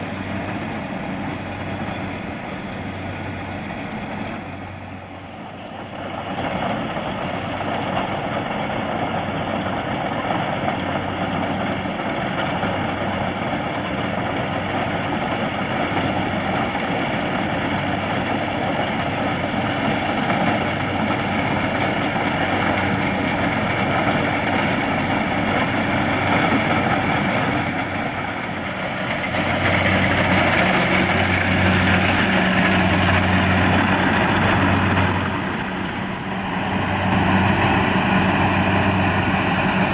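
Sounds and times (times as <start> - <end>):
diesel engine hum: 0.0 - 39.9
threshing machinery noise: 0.0 - 39.9.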